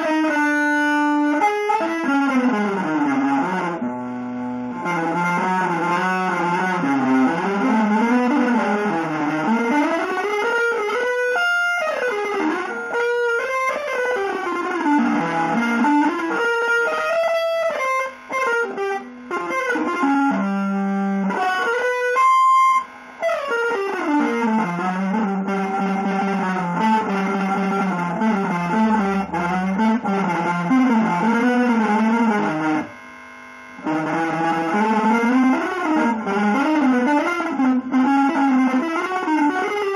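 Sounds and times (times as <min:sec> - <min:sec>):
electric guitar melodic runs: 0:00.0 - 0:39.9.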